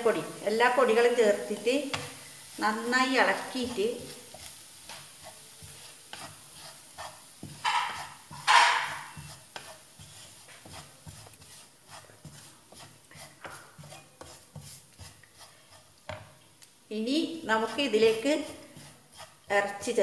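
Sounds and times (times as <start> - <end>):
wooden spatula scraping frying pan: 0.0 - 16.4, 17.2 - 20.0.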